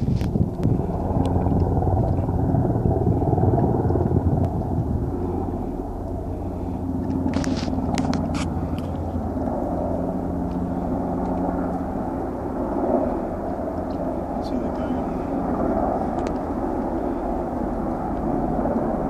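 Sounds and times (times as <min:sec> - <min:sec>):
helicopters droning overhead: 0:00.0 - 0:19.0.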